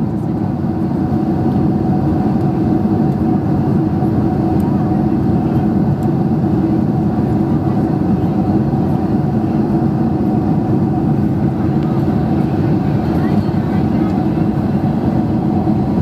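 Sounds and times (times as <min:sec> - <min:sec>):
airplane cabin engine rush: 0:00.0 - 0:16.0.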